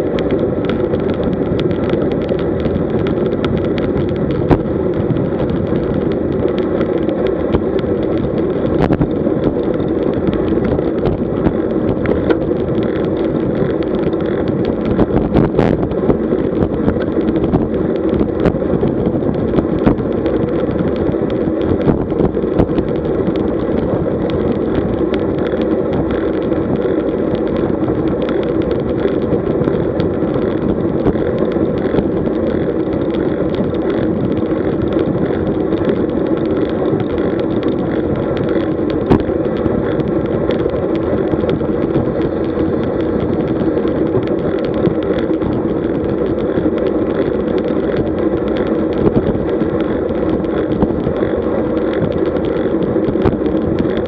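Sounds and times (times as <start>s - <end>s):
clicks and knocks from road: 0.0s - 54.0s
tyres rumbling on road: 0.0s - 54.0s
wind rush: 0.0s - 54.0s.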